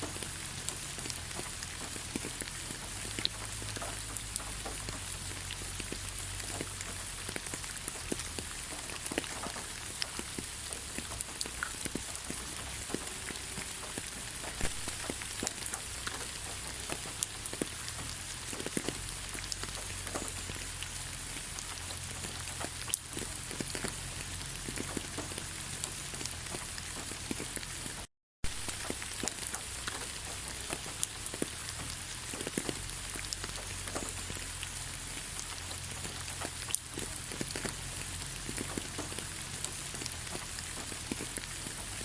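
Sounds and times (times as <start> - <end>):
raindrops tapping close by: 0.0 - 42.0
steady rain hiss: 0.0 - 42.0.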